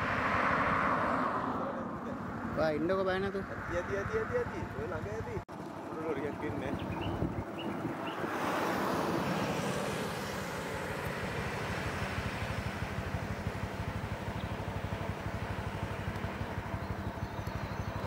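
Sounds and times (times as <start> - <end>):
lorry engine driving past: 0.0 - 18.0
road noise: 0.0 - 18.0.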